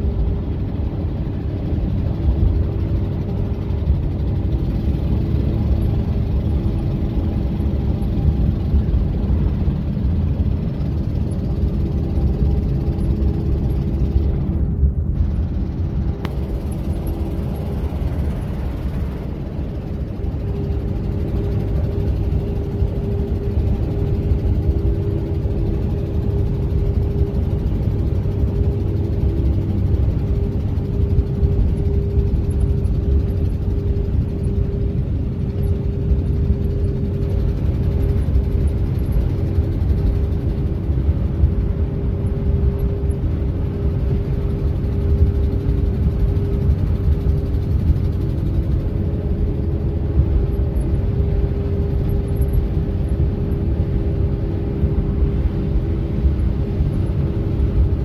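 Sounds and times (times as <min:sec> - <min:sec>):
constant hum: 0:00.0 - 0:58.0
road and engine rumble in cab: 0:00.0 - 0:58.0.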